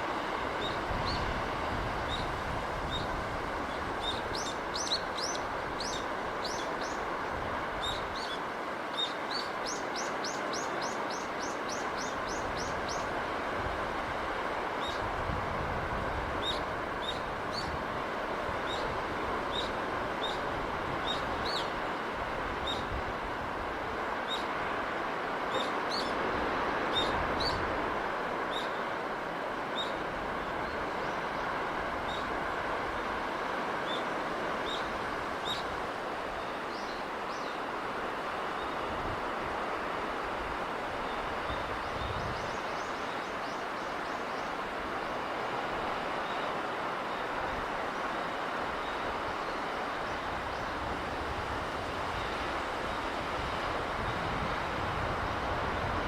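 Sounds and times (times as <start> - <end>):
sea and breeze: 0.0 - 56.0.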